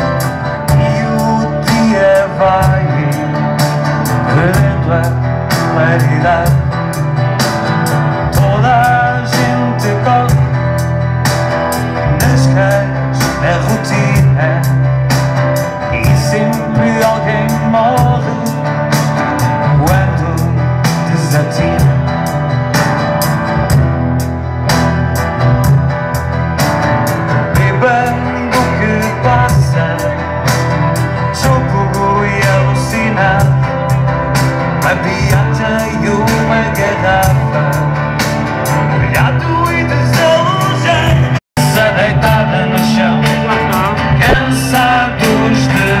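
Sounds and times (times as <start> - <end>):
person singing: 0.0 - 7.1, 8.2 - 10.8, 12.0 - 22.5, 27.3 - 46.0
live rock band over pa: 0.0 - 46.0
steady drumbeat: 0.0 - 46.0.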